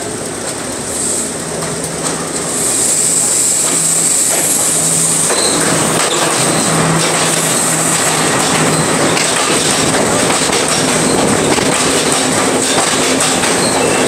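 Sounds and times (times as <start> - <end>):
train engine drone: 0.0 - 14.0
train wheel noise: 0.0 - 14.0.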